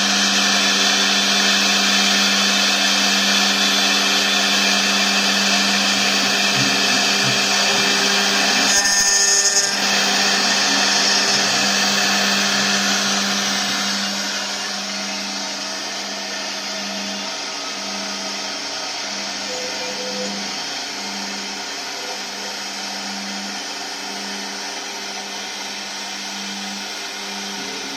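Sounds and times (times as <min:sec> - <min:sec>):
router spindle milling metal: 0:00.0 - 0:27.9.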